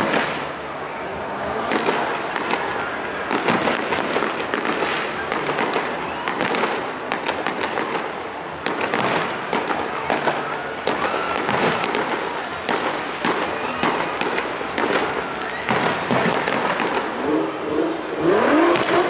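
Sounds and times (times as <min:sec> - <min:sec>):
fireworks crackling: 0:00.0 - 0:19.0
firework shells bursting: 0:01.7 - 0:17.2.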